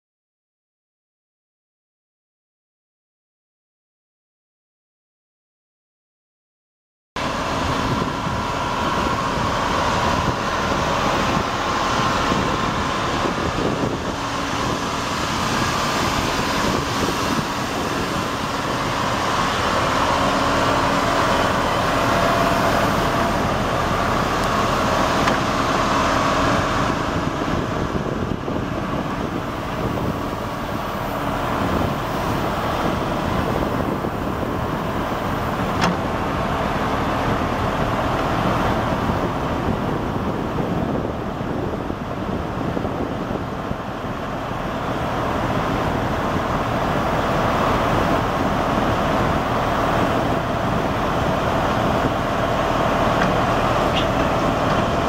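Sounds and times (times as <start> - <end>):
excavator diesel engine running: 7.2 - 55.0.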